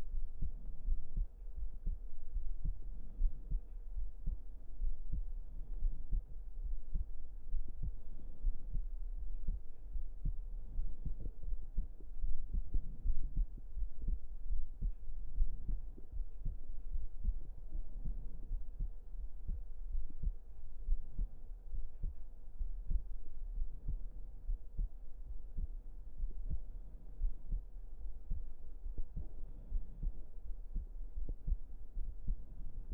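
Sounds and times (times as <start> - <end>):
deep rumble: 0.0 - 32.9
heartbeat thumps: 0.0 - 32.9.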